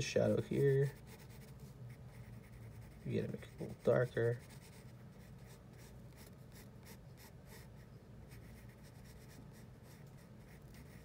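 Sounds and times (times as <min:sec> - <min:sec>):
pencil scratching on paper: 0:00.3 - 0:11.0.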